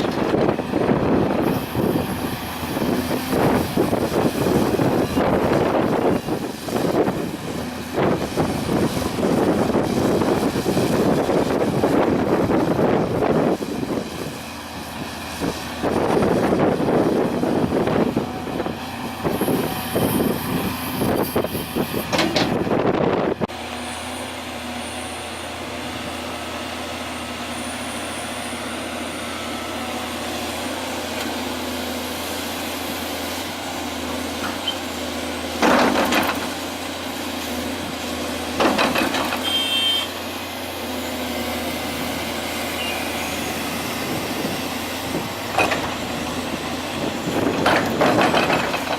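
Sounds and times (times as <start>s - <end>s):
diesel engine drone: 0.0s - 48.9s
loud rough machinery: 0.0s - 48.9s.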